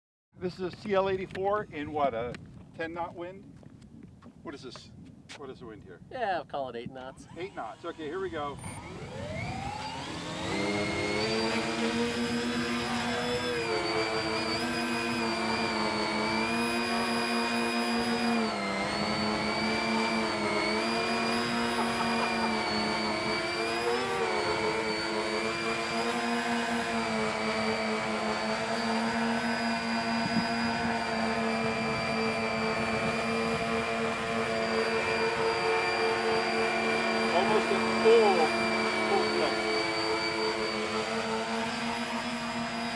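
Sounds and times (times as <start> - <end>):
model aircraft motors whining: 6.9 - 42.9.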